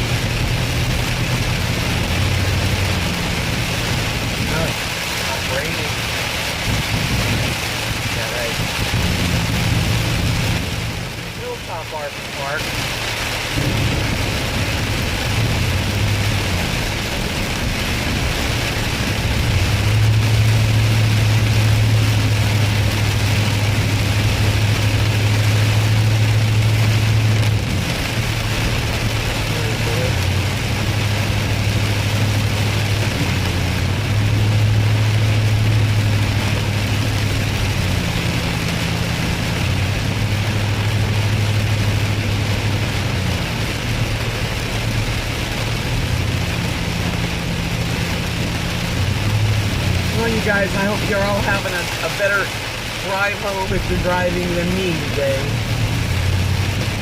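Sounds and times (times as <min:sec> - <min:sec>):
rain and tyres on wet road: 0:00.0 - 0:57.0
vehicle engine drone: 0:00.0 - 0:57.0.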